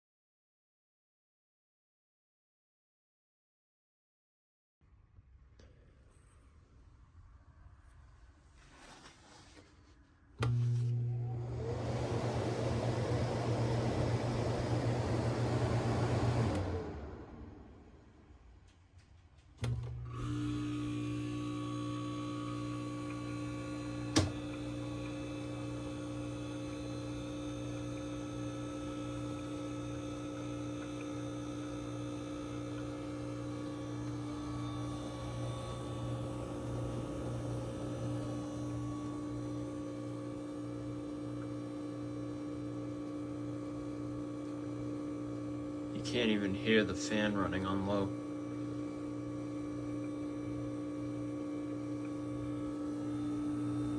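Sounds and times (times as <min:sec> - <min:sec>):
air conditioner humming: 0:10.4 - 0:53.9.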